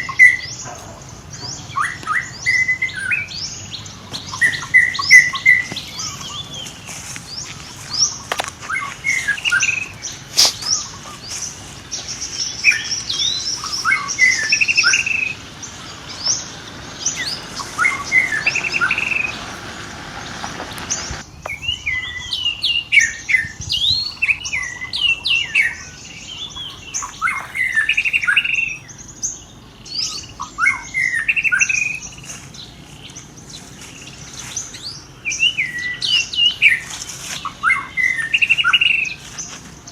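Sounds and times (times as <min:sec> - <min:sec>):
small animals chirping: 0:00.0 - 0:19.7, 0:20.3 - 0:39.6
steady background hiss: 0:00.0 - 0:39.9.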